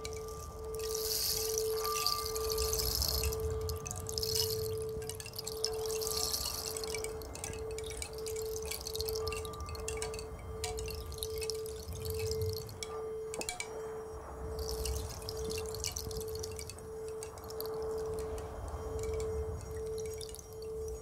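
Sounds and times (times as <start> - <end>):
high crackling: 0.0 - 20.3.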